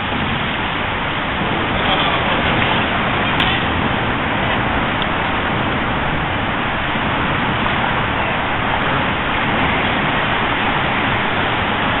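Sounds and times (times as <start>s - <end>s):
highway traffic rushing: 0.0s - 12.0s.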